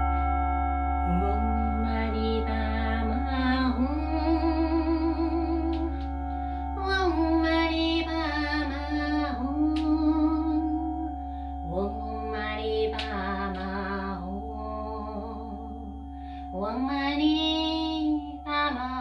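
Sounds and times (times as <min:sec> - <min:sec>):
low hum: 0:00.0 - 0:19.0
singing bowl ringing: 0:00.0 - 0:19.0
woman singing: 0:01.0 - 0:06.2, 0:06.8 - 0:19.0.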